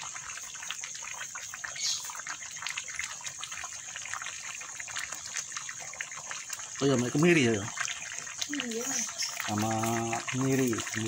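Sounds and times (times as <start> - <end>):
sauce bubbling and popping: 0.0 - 11.0.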